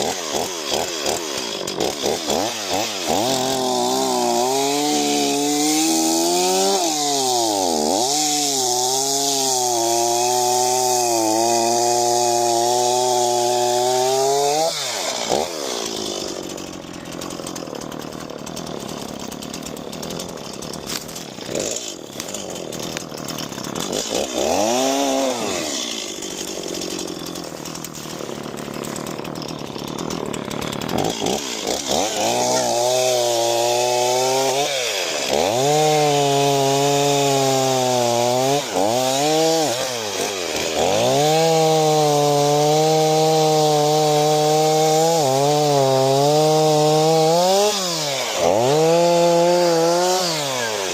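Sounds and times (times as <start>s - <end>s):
chainsaw running: 0.0s - 50.9s.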